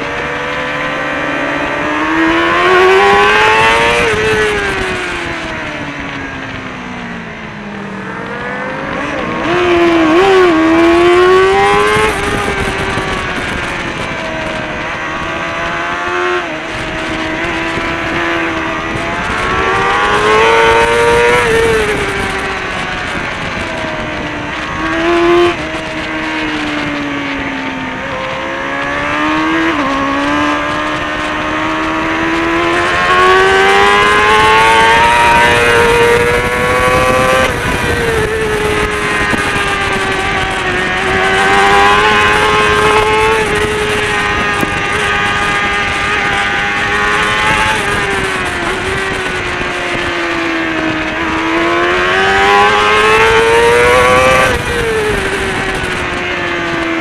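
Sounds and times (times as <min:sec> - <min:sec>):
motorcycle engine revving: 0:00.0 - 0:57.0
wind noise: 0:00.0 - 0:57.0.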